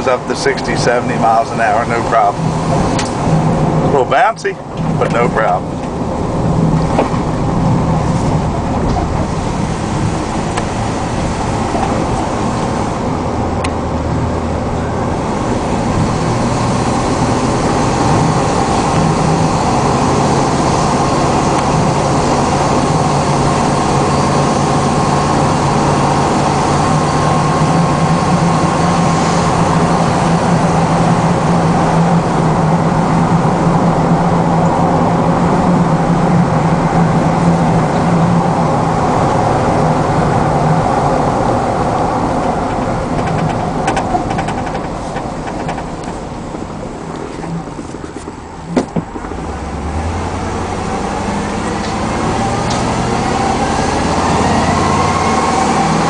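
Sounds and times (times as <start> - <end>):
road noise: 0.0 - 56.0
truck engine running: 0.0 - 56.0.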